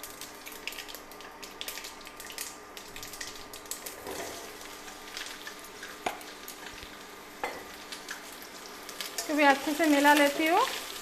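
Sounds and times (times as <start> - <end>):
mustard seeds popping in hot oil: 0.0 - 4.0, 4.6 - 11.0
vegetables sizzling in oil: 0.0 - 11.0.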